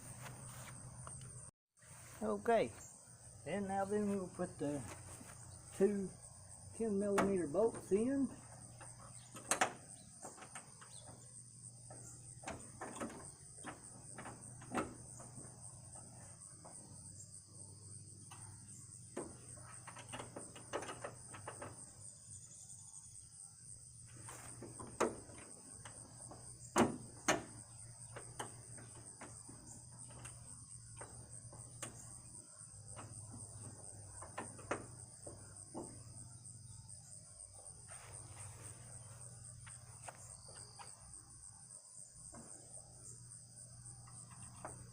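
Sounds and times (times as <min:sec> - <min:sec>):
crickets chirring: 0:00.0 - 0:44.9.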